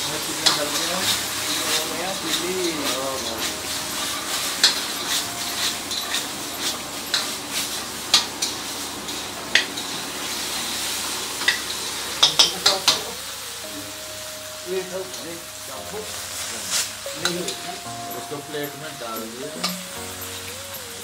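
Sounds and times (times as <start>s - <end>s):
chicken sizzling in a wok: 0.0s - 21.0s.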